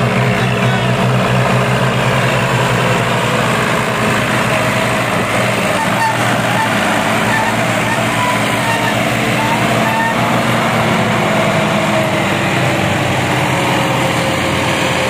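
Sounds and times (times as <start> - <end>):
tractor diesel engine running hard: 0.0 - 15.0.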